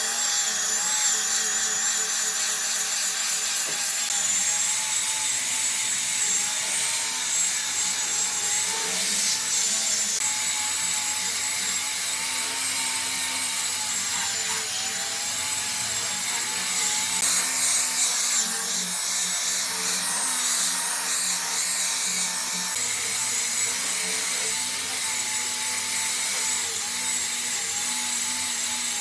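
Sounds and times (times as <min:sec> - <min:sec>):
power tool whining on wood: 0:00.0 - 0:29.0.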